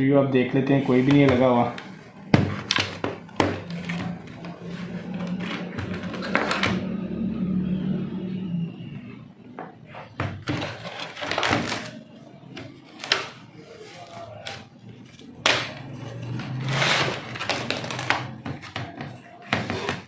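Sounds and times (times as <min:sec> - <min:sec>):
plastic cover scraping: 0:00.5 - 0:06.9, 0:10.0 - 0:20.0.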